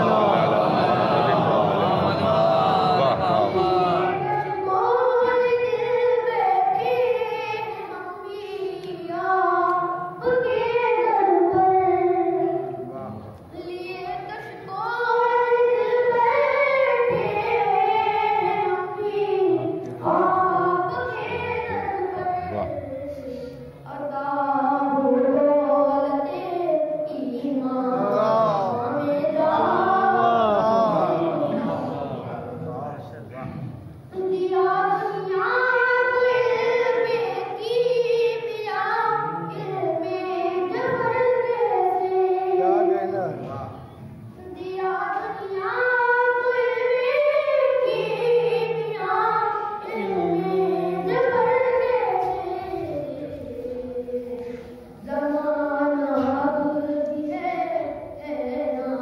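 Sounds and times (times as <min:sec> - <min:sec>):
boy singing unaccompanied: 0:00.0 - 0:32.6, 0:34.1 - 0:43.6, 0:44.3 - 0:59.0.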